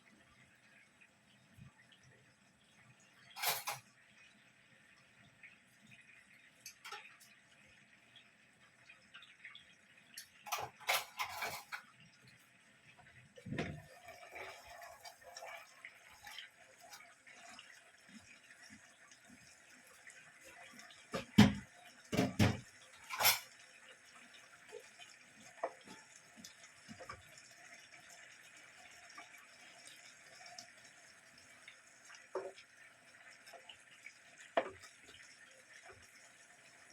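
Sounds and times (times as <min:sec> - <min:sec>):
faint water trickle: 0:00.0 - 0:36.9.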